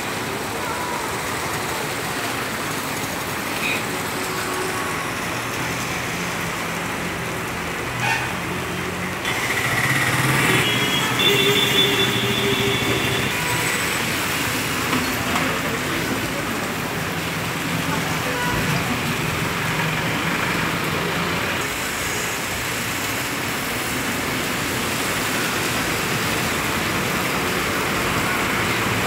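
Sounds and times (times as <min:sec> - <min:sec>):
rain hissing on wet street: 0:00.0 - 0:29.0
road traffic: 0:00.0 - 0:29.0.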